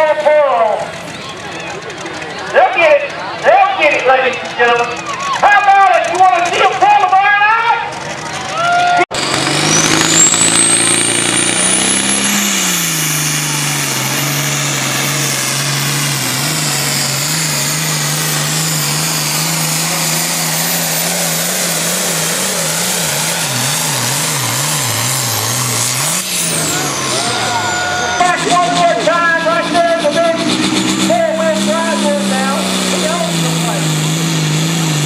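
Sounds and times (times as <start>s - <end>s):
tractor engine under load: 0.0s - 35.0s.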